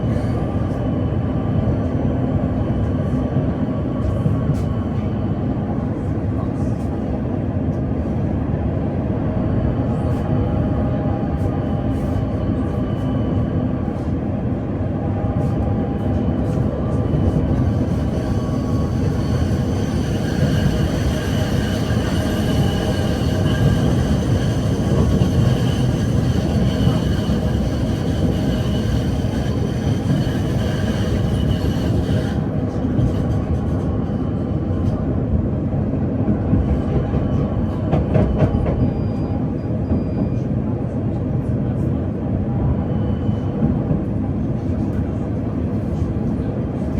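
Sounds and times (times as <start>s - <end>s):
tram running gear rumble: 0.0s - 42.0s.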